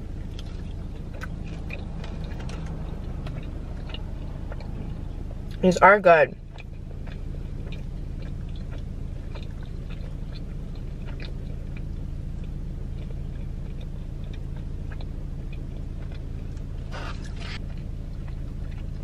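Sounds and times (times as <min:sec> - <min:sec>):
person chewing close to microphone: 0:00.0 - 0:05.8, 0:06.4 - 0:19.0
low hum inside car: 0:00.0 - 0:19.0.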